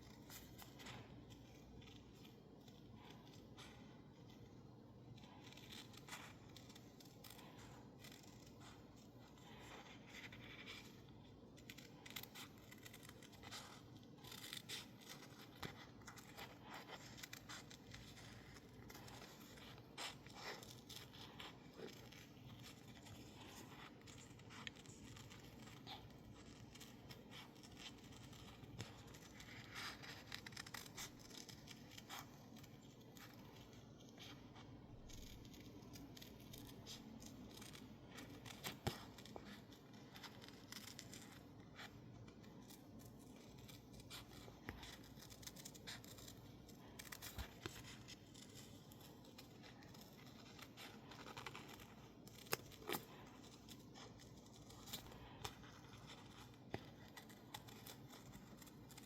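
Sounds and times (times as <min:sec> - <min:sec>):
paper scraping: 0:00.0 - 0:59.0
scissors snipping paper: 0:00.0 - 0:59.0.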